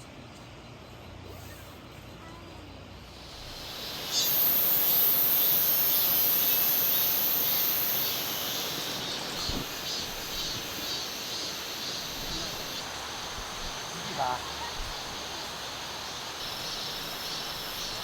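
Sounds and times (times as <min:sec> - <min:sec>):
background hiss: 0:02.7 - 0:18.0
insects calling: 0:02.8 - 0:18.0.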